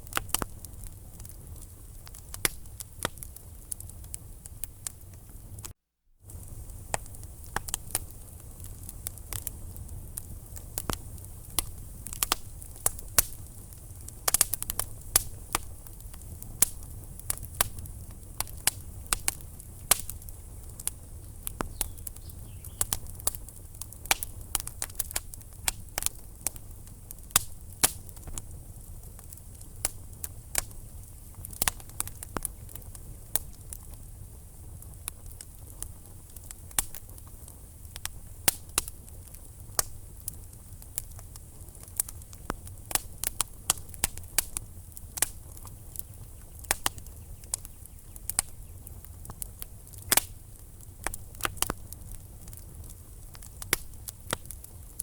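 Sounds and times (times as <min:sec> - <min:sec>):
logs crackling in fireplace: 0:00.0 - 0:55.0.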